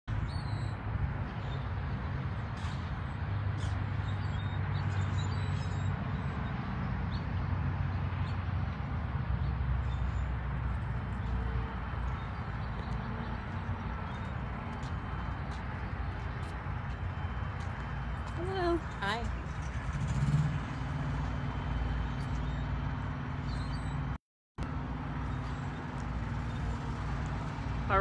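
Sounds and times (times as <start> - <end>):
low engine hum: 0.1 - 28.0.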